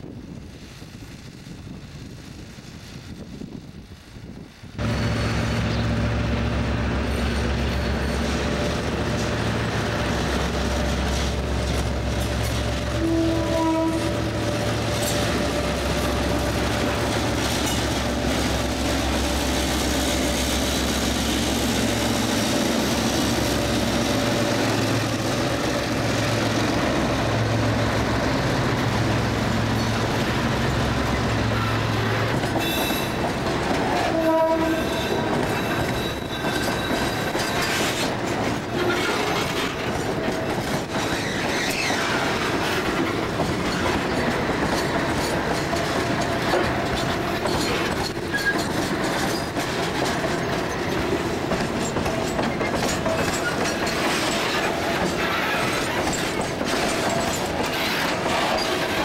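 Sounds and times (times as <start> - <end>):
diesel locomotive engine hum: 0.0 - 59.0
train wheels clattering on rails: 4.8 - 59.0.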